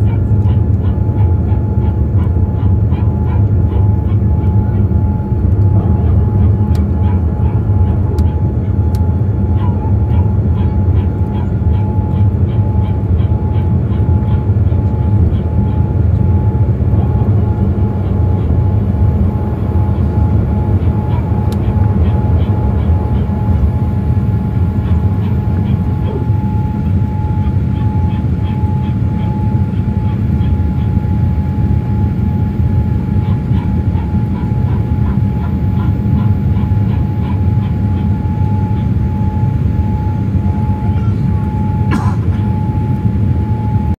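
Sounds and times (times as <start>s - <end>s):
aircraft engines and airflow rumble: 0.0s - 43.9s.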